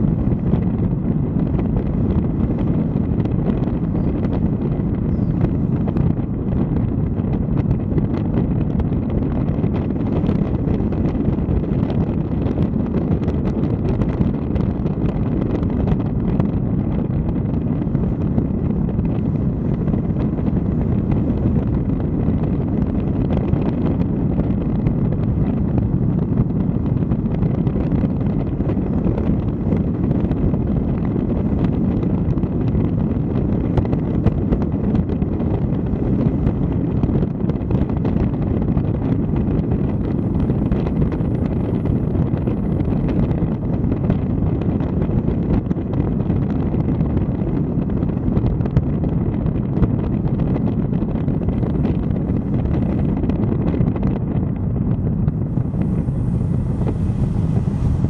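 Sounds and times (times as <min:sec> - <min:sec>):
vehicle rumbling uphill: 0:00.0 - 0:58.0
wind buffeting microphone: 0:00.0 - 0:58.0.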